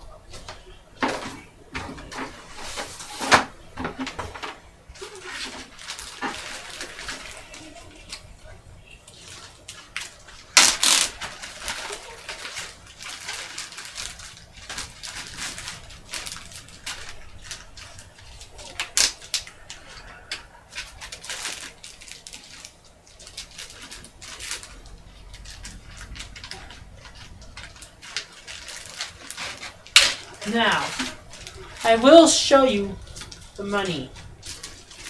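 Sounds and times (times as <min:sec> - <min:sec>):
rustling and clicks of handling: 0:00.3 - 0:35.0.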